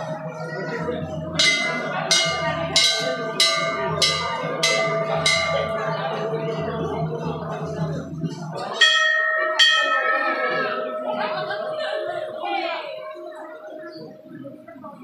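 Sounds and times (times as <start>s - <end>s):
brass bell ringing: 0.0s - 13.8s.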